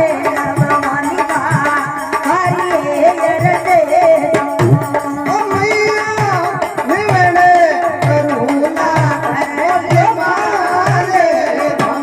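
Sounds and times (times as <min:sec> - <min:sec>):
hand drum beat: 0:00.0 - 0:12.0.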